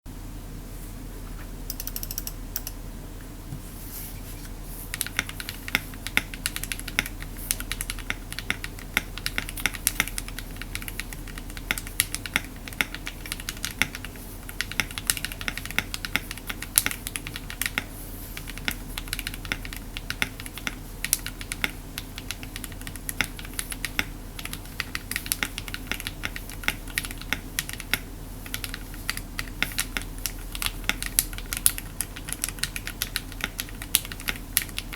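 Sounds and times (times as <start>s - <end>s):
low steady hum: 0.1s - 34.9s
typing on mechanical keyboard: 1.7s - 2.8s, 4.9s - 34.9s.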